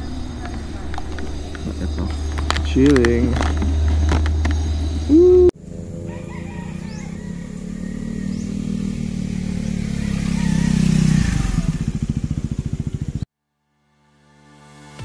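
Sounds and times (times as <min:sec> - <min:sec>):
motorcycle riding past: 0:00.0 - 0:13.3.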